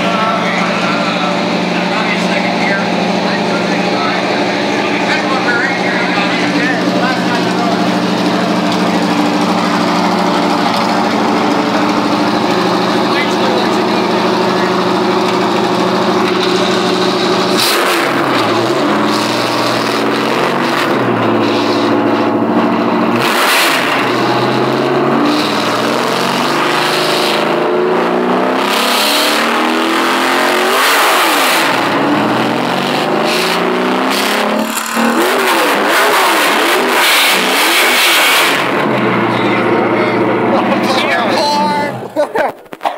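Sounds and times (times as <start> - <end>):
car engine revving: 0.0 - 42.3.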